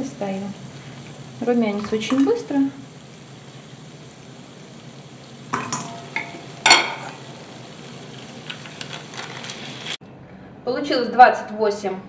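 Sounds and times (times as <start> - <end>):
pastry sizzling in frying oil: 0.0 - 10.0.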